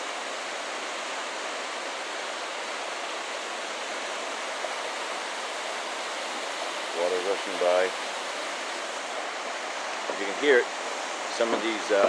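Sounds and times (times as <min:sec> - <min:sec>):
water rushing through canyon: 0:00.0 - 0:12.0.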